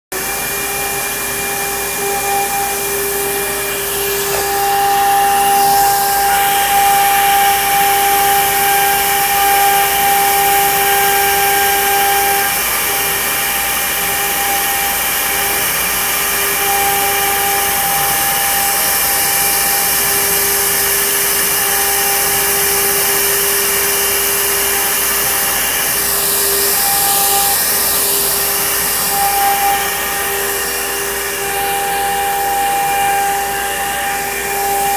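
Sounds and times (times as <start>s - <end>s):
router spindle whine: 0.1s - 34.9s
dust extraction hiss: 0.2s - 34.9s.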